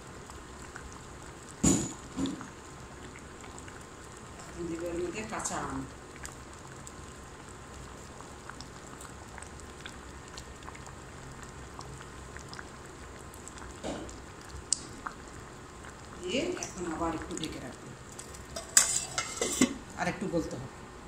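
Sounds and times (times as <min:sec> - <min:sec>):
lentils simmering with bubbles popping: 0:00.0 - 0:20.6
low steady hum: 0:00.0 - 0:21.0.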